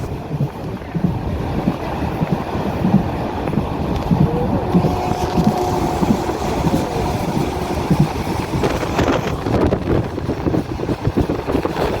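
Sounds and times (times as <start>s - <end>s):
train rumbling on rails: 0.0s - 12.0s
wheels clacking and knocking: 0.0s - 12.0s.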